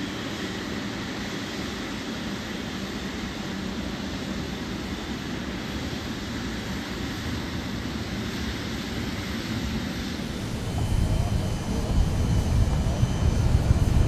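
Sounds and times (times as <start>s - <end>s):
jet engines at taxi power: 0.0s - 14.0s.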